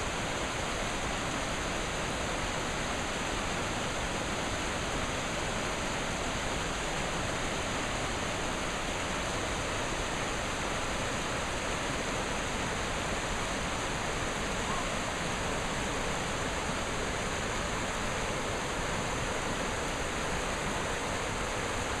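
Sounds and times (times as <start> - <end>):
rushing creek and waterfall: 0.0 - 22.0.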